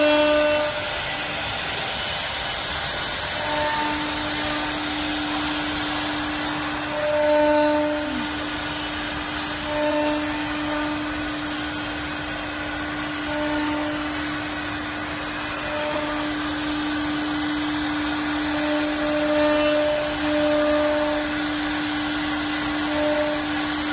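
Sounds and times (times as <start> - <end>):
router machine humming and whirring: 0.0 - 23.9.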